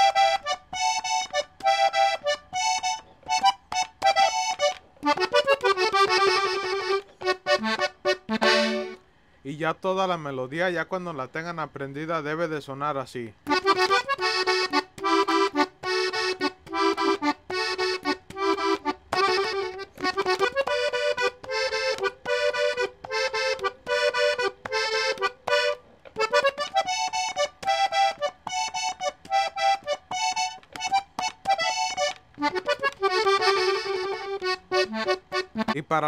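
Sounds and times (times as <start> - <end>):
button accordion melody: 0.0 - 9.1, 13.4 - 36.0.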